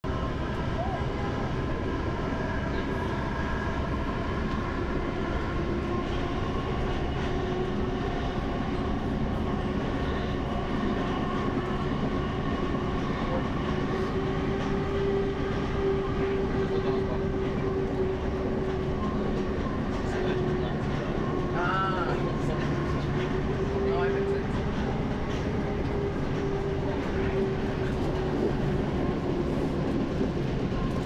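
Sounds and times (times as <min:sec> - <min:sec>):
train carriage rumble and hum: 0:00.0 - 0:31.0.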